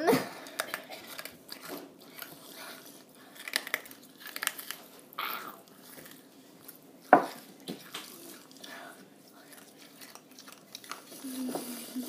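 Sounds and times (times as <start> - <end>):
crunchy chewing: 0.5 - 12.0.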